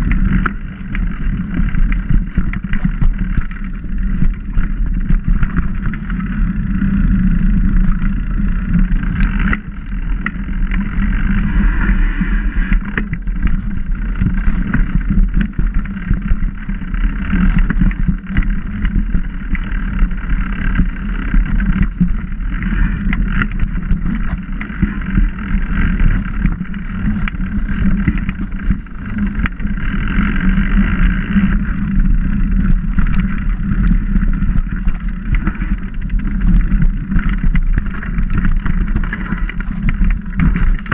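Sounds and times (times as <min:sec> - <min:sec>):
bike rattling: 0:00.0 - 0:40.9
wind rumble on microphone: 0:00.0 - 0:40.9.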